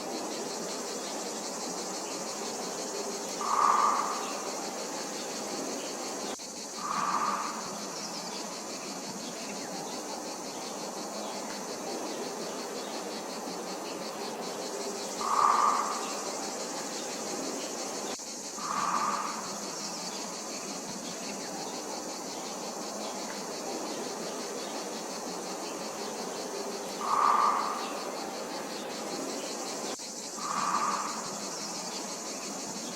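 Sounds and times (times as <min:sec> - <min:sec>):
high-pitched insect chorus: 0:00.0 - 0:32.9
short loud insect calls: 0:00.0 - 0:32.9.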